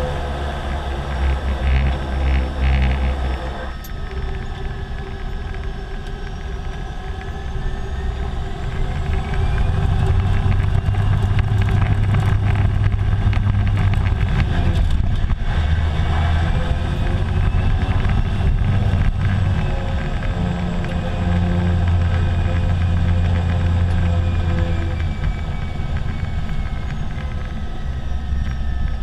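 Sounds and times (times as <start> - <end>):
turboprop engine running: 0.0 - 29.0.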